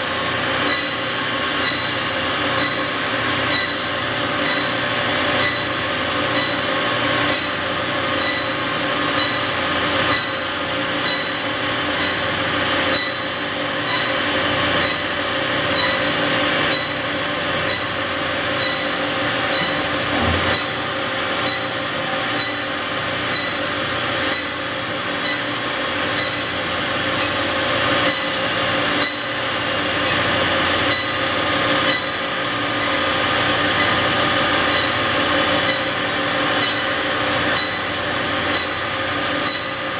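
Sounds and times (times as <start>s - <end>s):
bandsaw machine hum: 0.0s - 39.9s.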